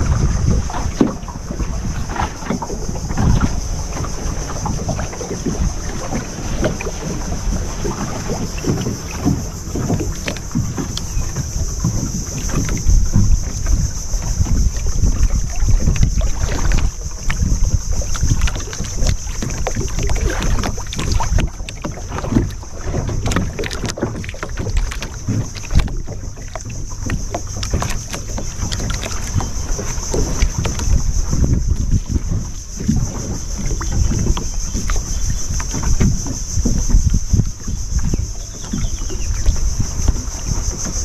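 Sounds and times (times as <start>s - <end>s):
knocks and splashes: 0.0s - 41.0s
wind and water rumble on microphone: 0.0s - 41.0s.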